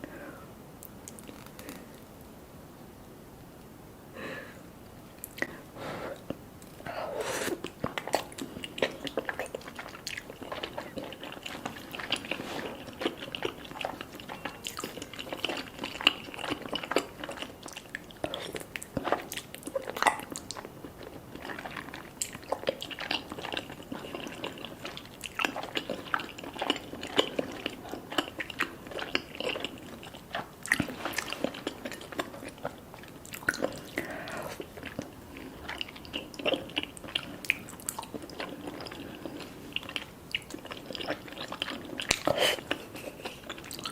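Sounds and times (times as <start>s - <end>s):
person chewing food: 5.2s - 43.9s.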